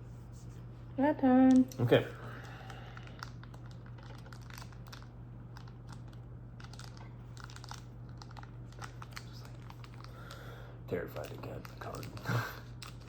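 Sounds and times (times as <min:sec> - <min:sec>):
foil wrapper crinkling and tearing: 0:02.5 - 0:13.0.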